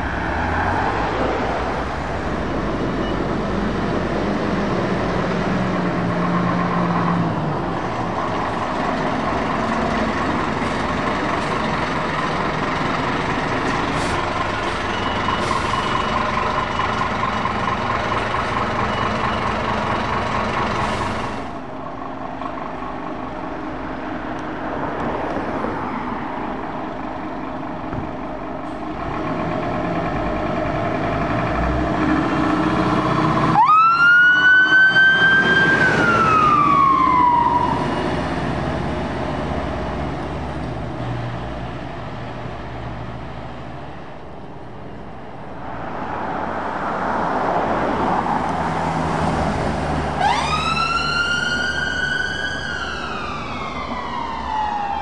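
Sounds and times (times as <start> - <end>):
heavy vehicle engine running: 0.0 - 33.7, 35.2 - 54.6.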